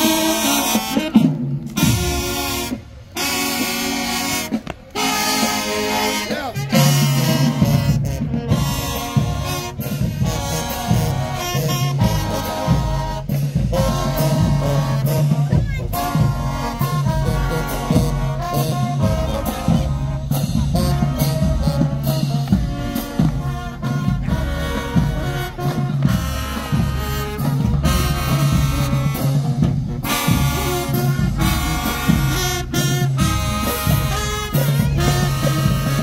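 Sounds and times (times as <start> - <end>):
brass horns: 0.0 - 36.0
steady drum beat: 0.0 - 36.0.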